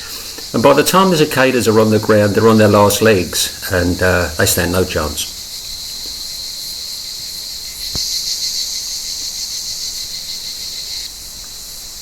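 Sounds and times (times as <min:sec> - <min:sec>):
cicadas singing: 0:00.0 - 0:12.0.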